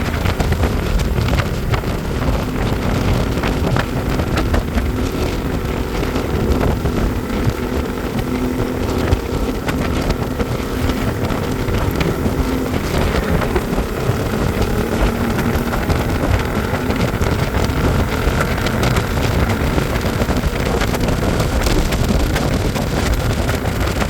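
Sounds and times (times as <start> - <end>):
vehicle engine and road noise: 0.0 - 24.0
wind buffeting microphone: 0.0 - 24.0.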